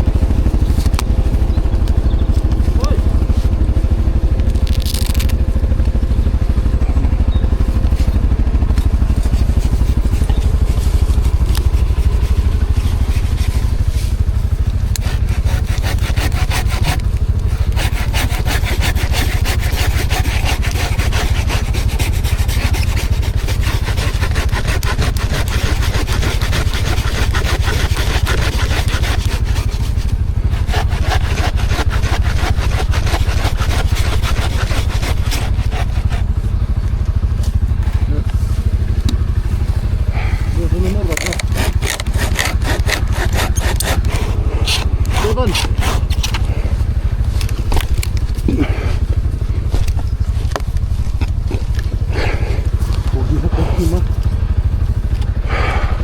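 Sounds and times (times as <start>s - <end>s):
rough scraping and rustling: 0.0s - 55.8s
atv engine running: 0.0s - 56.0s.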